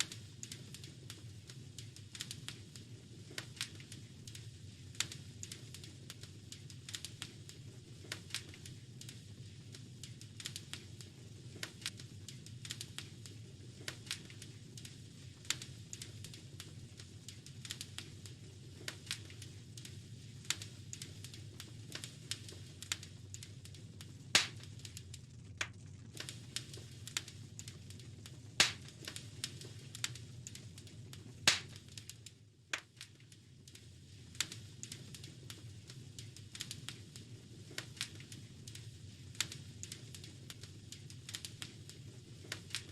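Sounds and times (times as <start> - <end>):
fire pops and snaps: 0.0 - 42.9
low rumble of flames: 0.0 - 42.9
wood fire crackling: 0.0 - 42.9.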